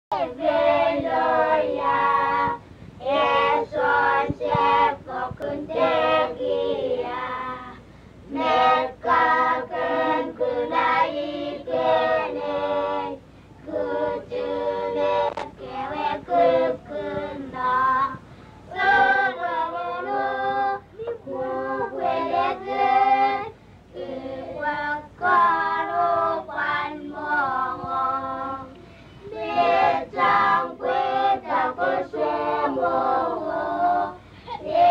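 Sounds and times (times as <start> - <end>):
group singing unaccompanied: 0.1 - 34.9.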